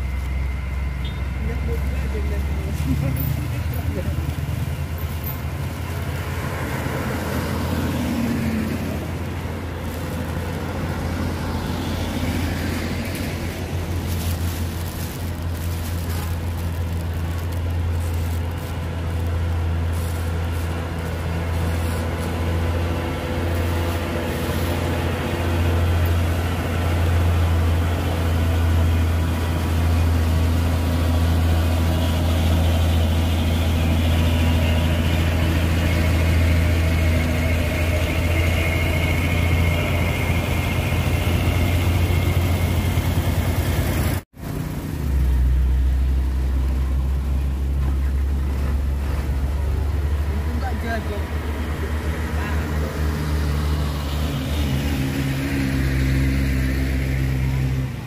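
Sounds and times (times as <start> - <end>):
diesel truck engines idling: 0.0 - 58.0.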